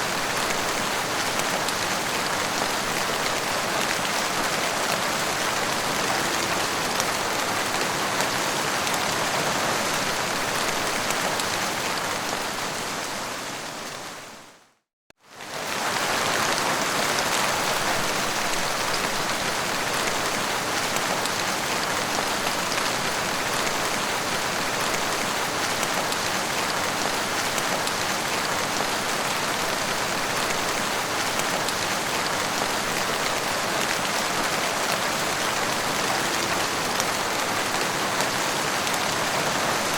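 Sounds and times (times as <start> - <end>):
heavy rain falling: 0.0 - 14.2, 15.4 - 39.9.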